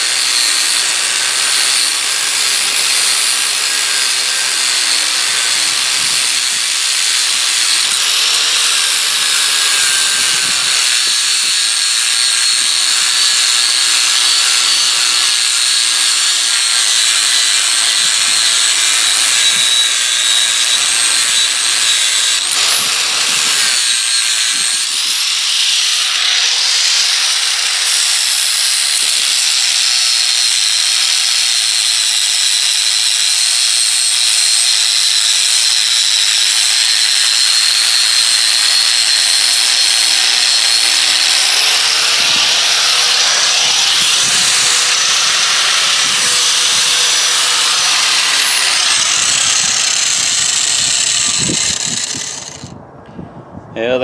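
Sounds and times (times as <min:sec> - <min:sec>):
angle grinder grinding steel: 0:00.0 - 0:52.8.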